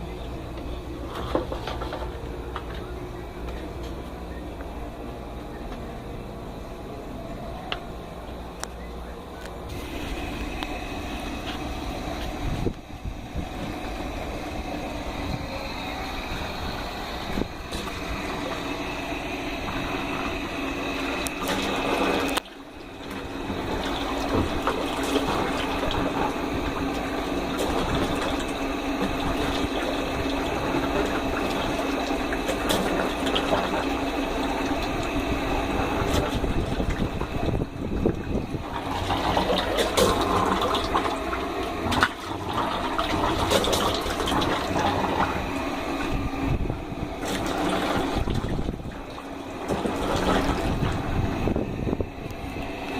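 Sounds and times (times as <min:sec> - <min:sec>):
compressor humming: 0:00.0 - 0:52.9
water gushing and splashing: 0:09.7 - 0:52.9.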